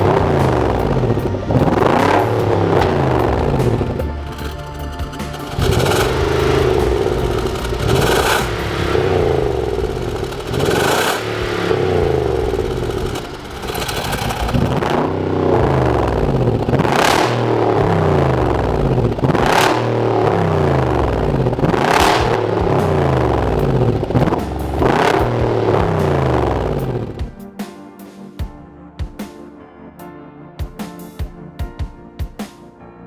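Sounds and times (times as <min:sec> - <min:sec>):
car engine revving: 0:00.0 - 0:27.2.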